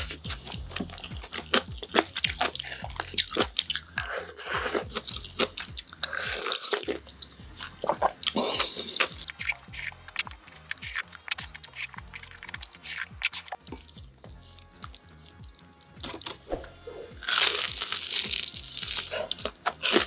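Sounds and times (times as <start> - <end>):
mouth clicks: 0.0 - 20.0
slurping soup: 0.0 - 20.0
wet chewing: 0.0 - 20.0.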